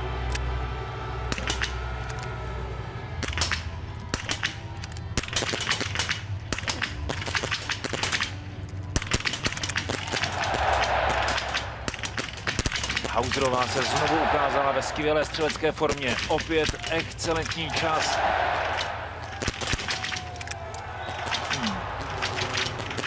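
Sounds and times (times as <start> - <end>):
rifle shots: 1.3 - 1.8, 3.2 - 4.6, 5.2 - 20.4, 21.0 - 23.0
background din: 3.2 - 23.0.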